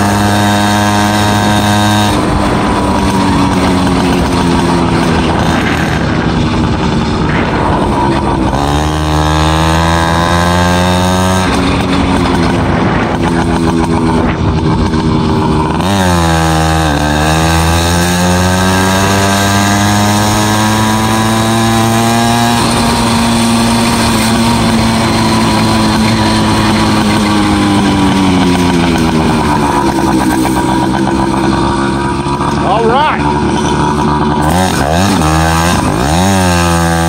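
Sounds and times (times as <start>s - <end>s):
two-stroke engine running hard: 0.0s - 37.0s.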